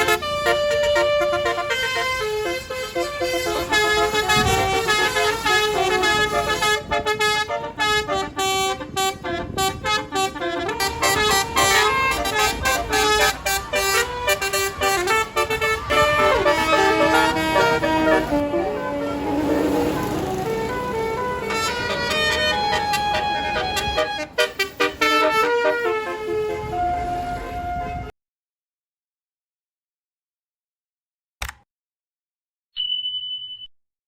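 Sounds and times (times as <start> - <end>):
bus air horn melody: 0.0 - 28.1.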